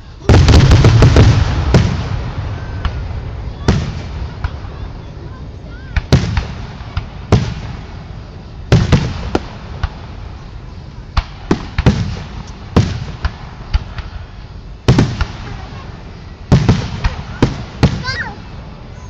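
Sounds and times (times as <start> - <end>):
fireworks bangs: 0.0 - 19.0
rumbling echo: 0.0 - 19.0.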